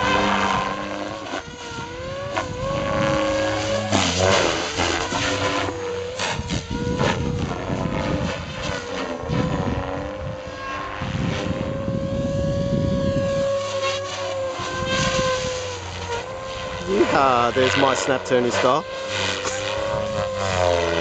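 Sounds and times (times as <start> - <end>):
low rotor rumbling: 0.0 - 21.0
model helicopter whine: 0.0 - 21.0.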